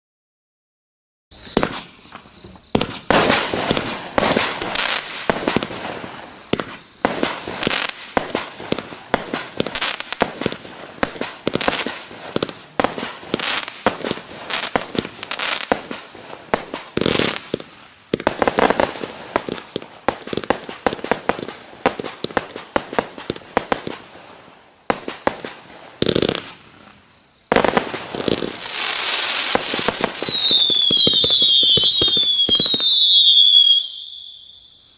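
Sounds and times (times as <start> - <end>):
firework cake bangs and crackling: 1.4 - 34.2.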